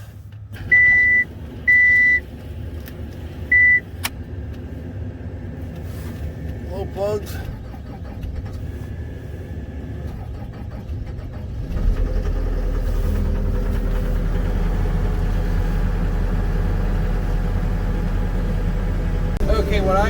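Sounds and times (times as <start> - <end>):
diesel engine cranking: 0.0 - 20.0
diesel engine idling: 0.0 - 20.0.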